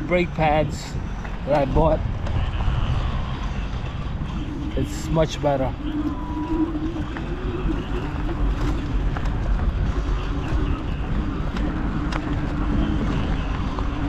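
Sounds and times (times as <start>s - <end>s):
motor hum: 0.0s - 14.0s
road and tyre noise: 0.0s - 14.0s
wind buffeting microphone: 0.0s - 14.0s.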